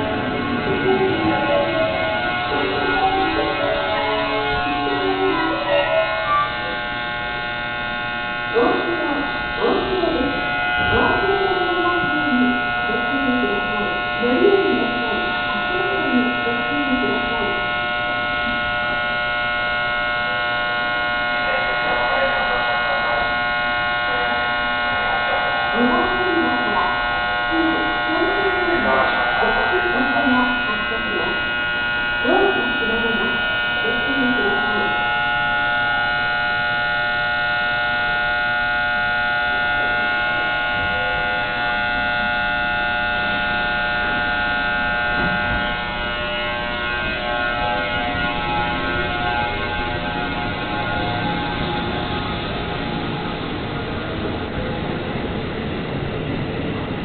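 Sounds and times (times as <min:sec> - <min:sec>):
faint voices: 0:00.0 - 0:57.0
train electrical buzz: 0:00.0 - 0:57.0.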